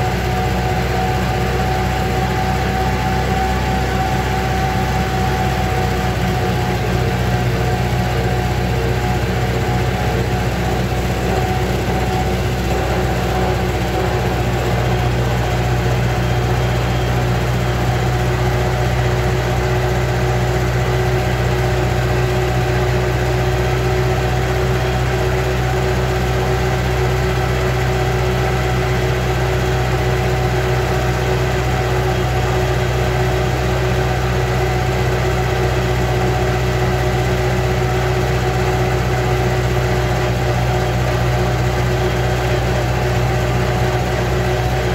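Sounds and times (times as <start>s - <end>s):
tractor engine droning: 0.0s - 44.9s.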